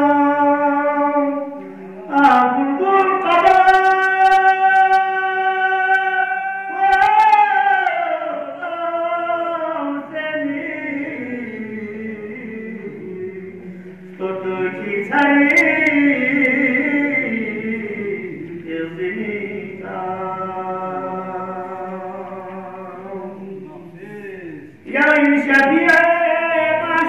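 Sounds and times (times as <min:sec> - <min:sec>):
man chanting: 0:00.0 - 0:27.0.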